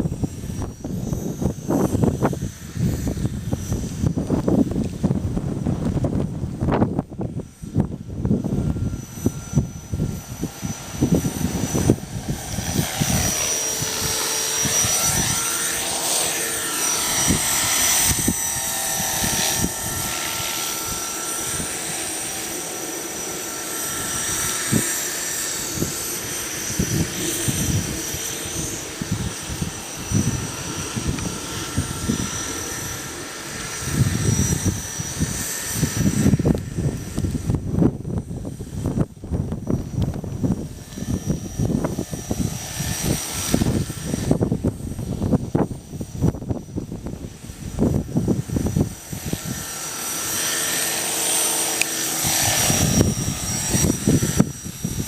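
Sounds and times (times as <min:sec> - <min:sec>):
gusty low rumbling: 0:00.0 - 0:22.6, 0:23.2 - 0:50.8, 0:52.2 - 0:55.0
aircraft engine whine: 0:00.0 - 0:55.0.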